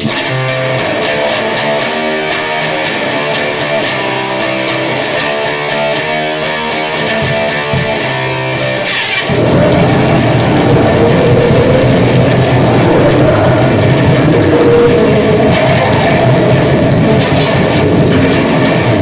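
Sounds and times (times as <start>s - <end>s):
distorted guitar riff: 0.0s - 19.0s
wall of distorted noise: 0.0s - 19.0s.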